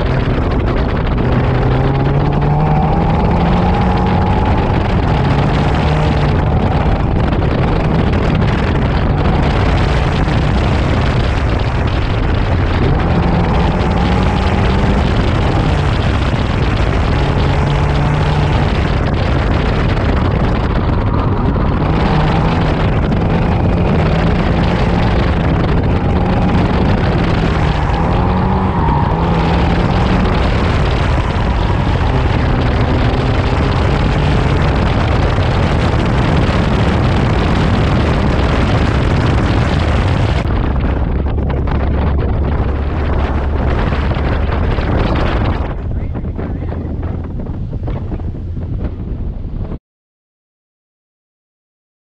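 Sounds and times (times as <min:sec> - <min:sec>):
car engine revving: 0:00.0 - 0:48.2
wind and tyre noise: 0:00.0 - 0:49.8.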